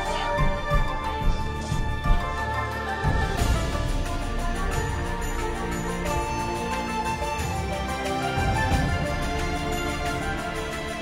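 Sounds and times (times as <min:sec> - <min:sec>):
background music with light beat: 0:00.0 - 0:11.0.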